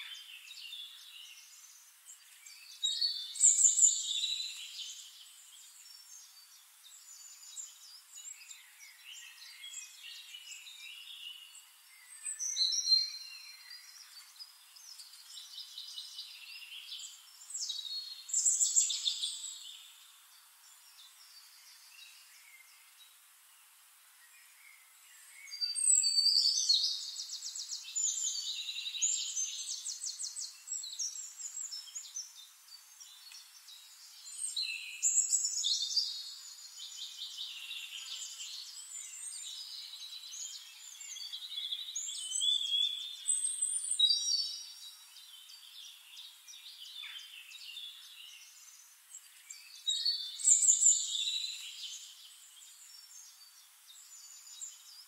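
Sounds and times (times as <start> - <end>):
birds chirping and trilling: 0.0 - 55.0.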